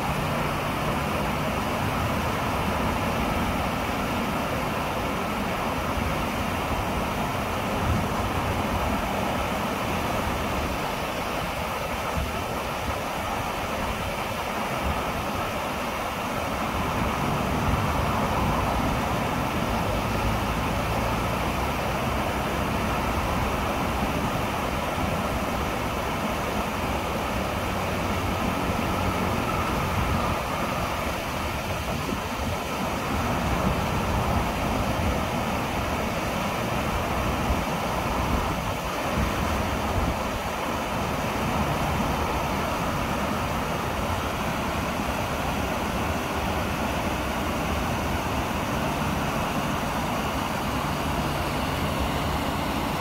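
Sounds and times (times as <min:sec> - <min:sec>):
waterfall rushing over rocks: 0:00.0 - 0:53.0.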